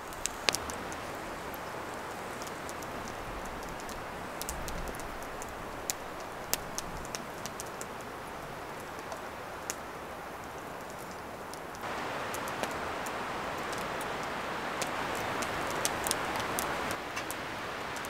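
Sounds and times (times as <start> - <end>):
rain on tent canvas: 0.0 - 18.0.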